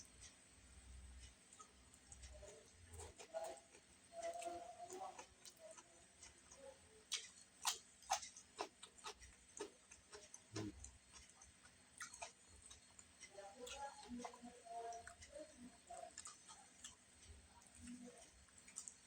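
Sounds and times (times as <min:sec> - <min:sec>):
crunchy chewing: 0:01.2 - 0:19.0.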